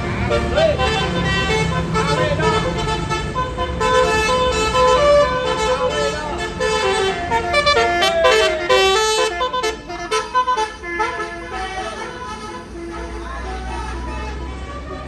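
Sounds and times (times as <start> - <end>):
musical air horn playing a tune: 0.0 - 14.7
bus engine rumble: 0.0 - 15.0.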